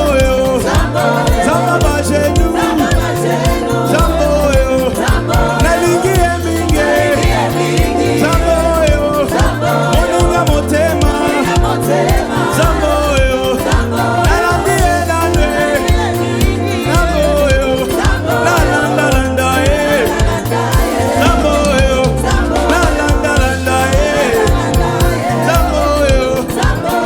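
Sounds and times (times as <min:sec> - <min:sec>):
bass line: 0:00.0 - 0:27.0
people singing: 0:00.0 - 0:27.0.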